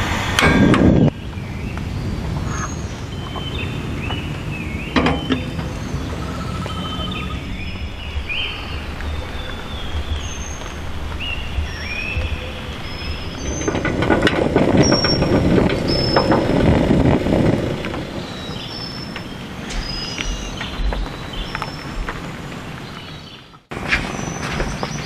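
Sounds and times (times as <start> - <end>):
rushing noise with crackles: 0.0 - 25.0
birds whistling: 0.5 - 13.9, 14.8 - 16.5, 18.1 - 25.0.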